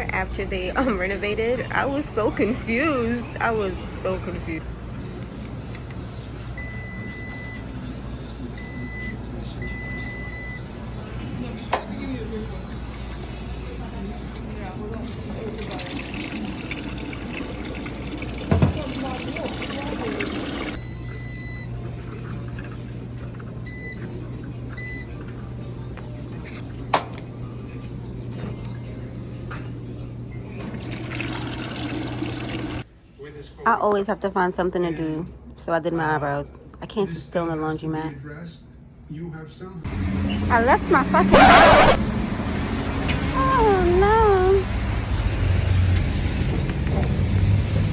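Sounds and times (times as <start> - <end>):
low hum of machines: 0.0 - 42.5.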